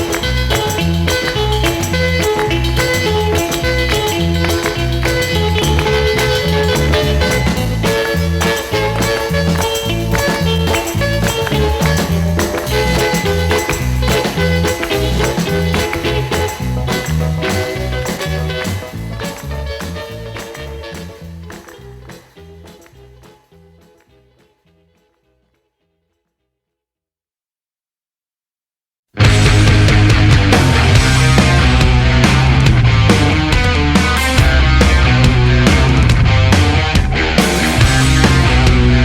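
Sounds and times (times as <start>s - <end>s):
music with bass beat and percussion: 0.0s - 23.6s, 29.2s - 39.0s.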